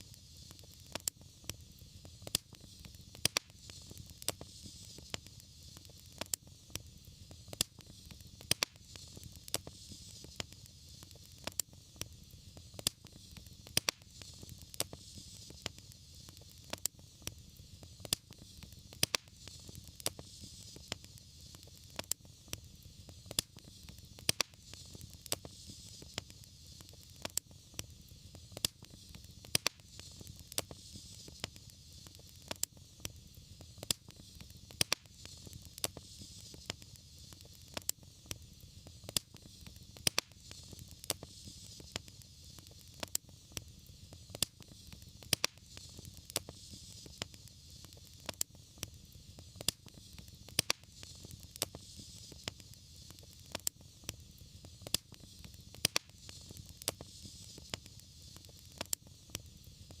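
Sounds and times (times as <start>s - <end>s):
fire crackling and popping: 0.0s - 60.0s
fire rumbling and hissing: 0.0s - 60.0s.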